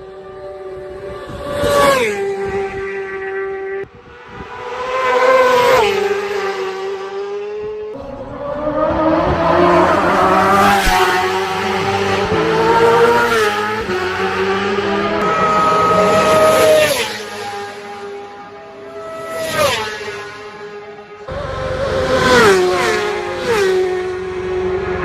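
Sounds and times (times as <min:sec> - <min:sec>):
motorcycles passing at high speed: 0:00.0 - 0:25.0.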